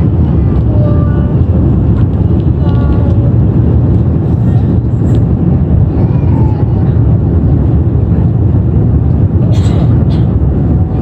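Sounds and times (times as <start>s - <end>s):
air rushing past fuselage: 0.0s - 11.0s
airliner engines rumbling: 0.0s - 11.0s.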